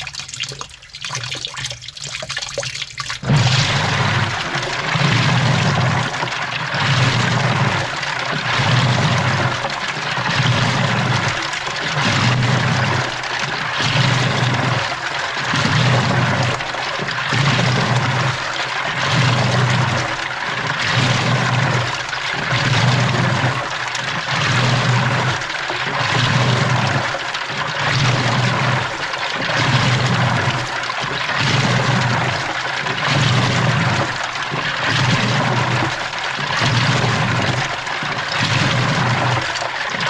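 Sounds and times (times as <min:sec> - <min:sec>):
water sloshing in washing machine: 0:00.0 - 0:40.0.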